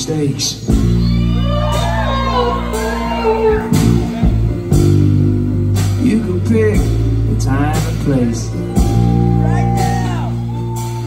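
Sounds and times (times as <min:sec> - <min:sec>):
drums: 0:00.0 - 0:11.0.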